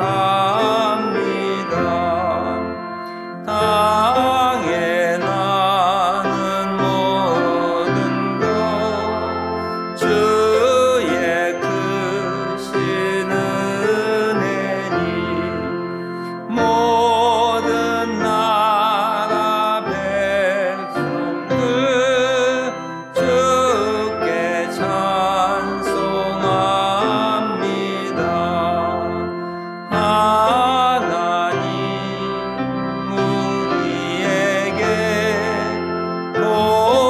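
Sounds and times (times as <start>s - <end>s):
congregation singing a hymn: 0.0s - 37.0s
keyboard chords and bass notes: 0.0s - 37.0s
strong voice singing with vibrato: 0.0s - 37.0s.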